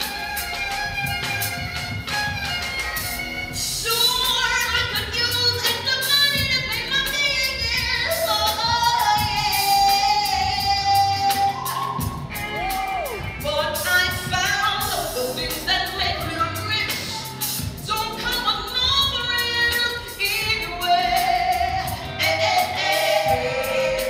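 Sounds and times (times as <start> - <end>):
backing track with beat: 0.0 - 24.0
woman singing into microphone: 3.6 - 24.0.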